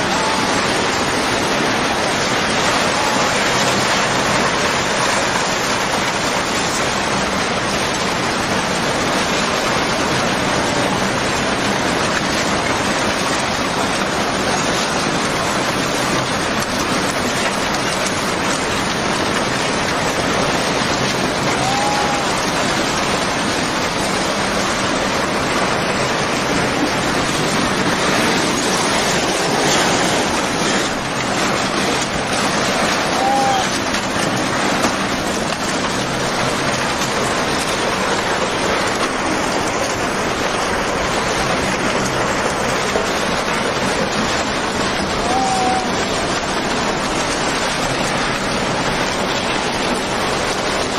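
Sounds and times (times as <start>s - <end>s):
floodwater rushing with debris: 0.0s - 50.9s.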